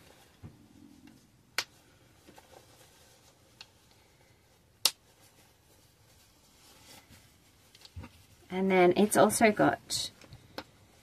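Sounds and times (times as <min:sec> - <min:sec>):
fabric handling: 0:00.0 - 0:08.8.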